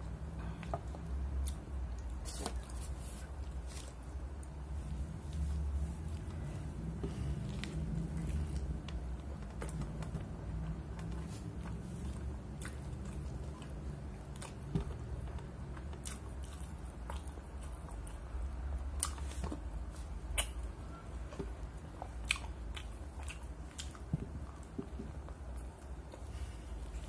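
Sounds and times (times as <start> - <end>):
chewing and crunching burger: 1.3 - 27.0.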